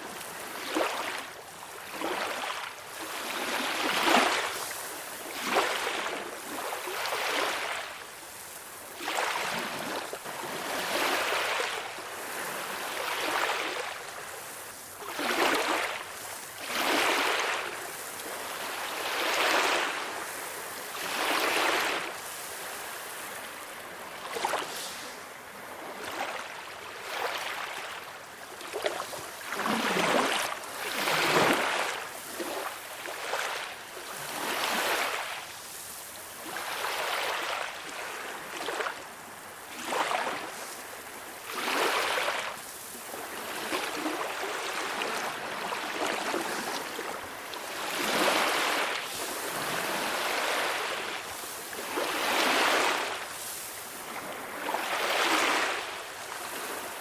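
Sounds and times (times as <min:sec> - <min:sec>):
calm sea waves washing: 0:00.0 - 0:57.0.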